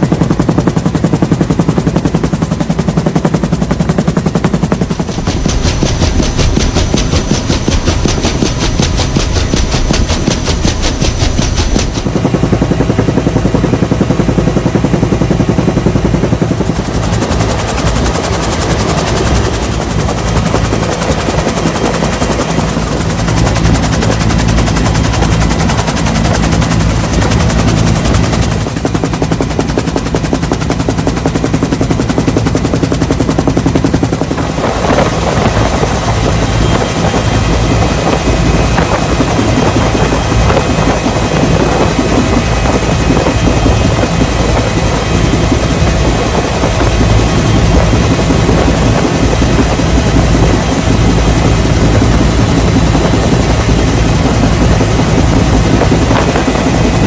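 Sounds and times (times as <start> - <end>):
motor with rapid chopping pulse: 0.0 - 57.0.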